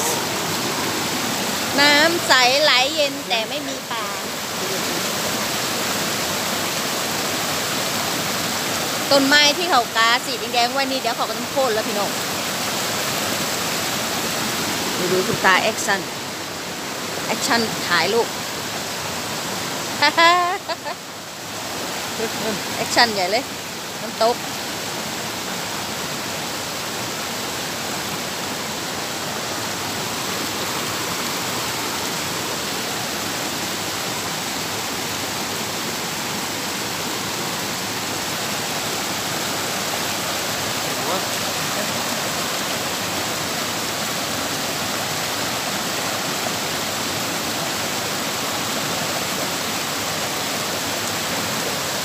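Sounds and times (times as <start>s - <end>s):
waterfall rushing over boulders: 0.0s - 52.0s.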